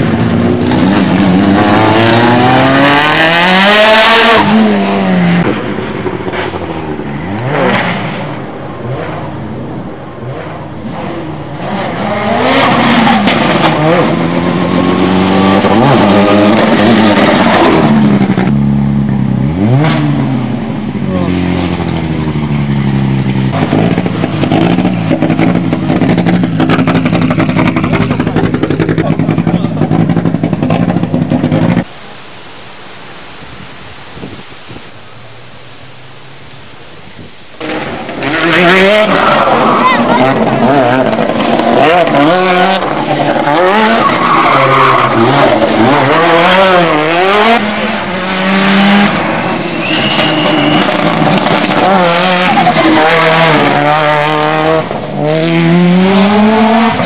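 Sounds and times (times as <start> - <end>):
car engine revving: 0.0 - 32.3, 34.5 - 57.0.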